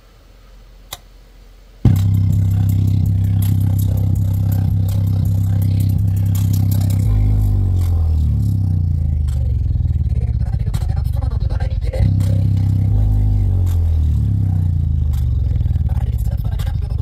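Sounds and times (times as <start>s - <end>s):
deep bass music from speaker: 1.8s - 17.0s
speaker rattling buzz: 1.8s - 17.0s.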